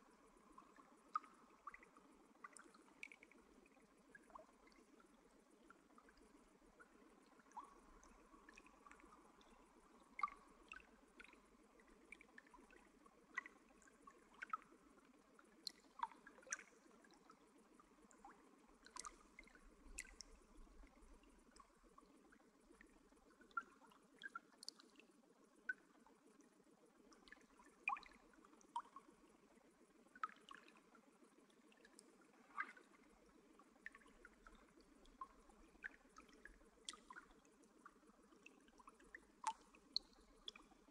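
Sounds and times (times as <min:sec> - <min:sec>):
water dripping into water: 0:00.0 - 0:40.9
water trickling: 0:00.0 - 0:40.9.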